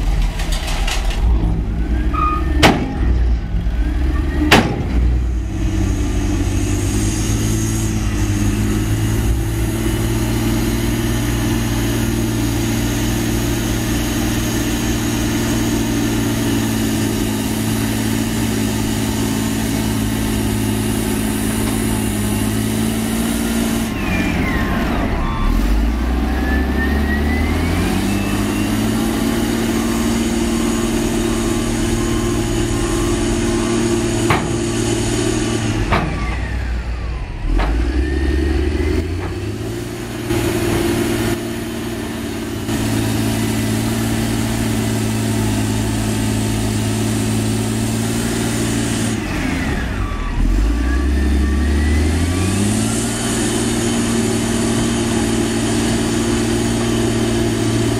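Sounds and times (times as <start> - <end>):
compactor diesel engine revving: 0.0 - 57.9.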